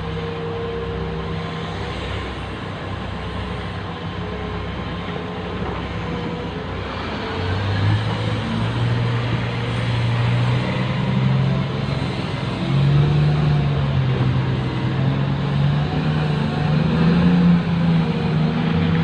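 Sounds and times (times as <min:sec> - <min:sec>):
diesel engine revving: 0:01.4 - 0:19.0.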